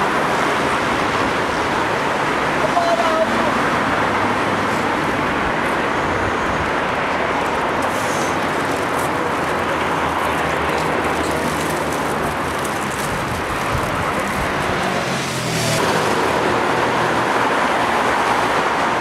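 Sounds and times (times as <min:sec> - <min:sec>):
heavy road traffic: 0:00.0 - 0:19.0.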